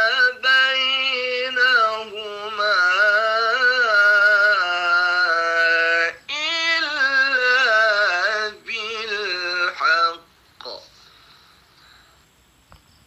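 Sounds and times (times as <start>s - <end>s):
man chanting recitation: 0.0s - 11.1s.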